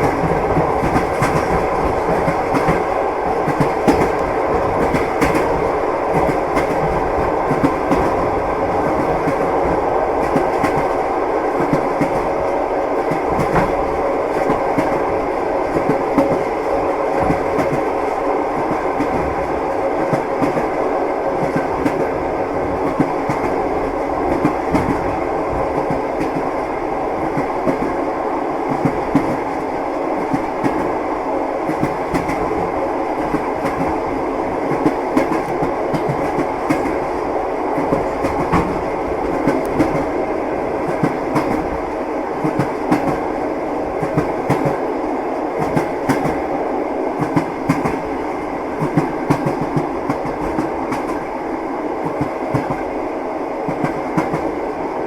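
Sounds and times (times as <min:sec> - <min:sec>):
railway carriage rumbling: 0:00.0 - 0:55.0.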